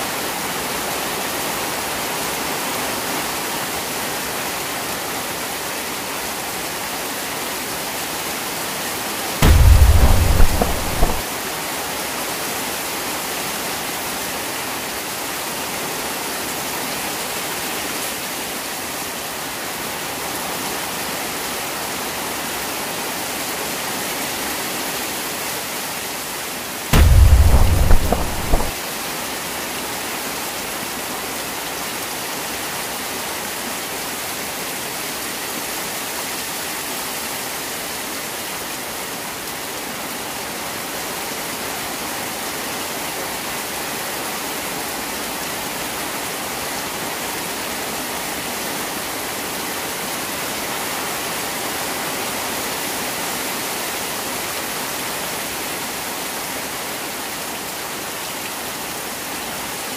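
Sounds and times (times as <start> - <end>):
heavy rain on water and concrete: 0.0 - 59.9.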